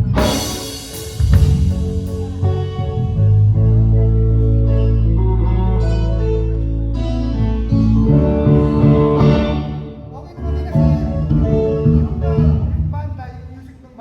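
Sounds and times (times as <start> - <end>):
guitar chords: 0.0 - 12.9
low bass note: 0.0 - 13.1.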